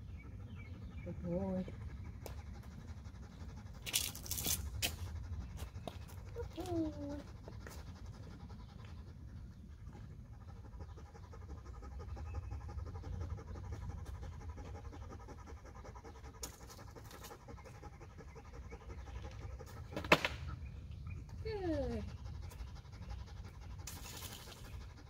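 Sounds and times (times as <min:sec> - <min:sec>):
dog panting: 0:00.0 - 0:25.0.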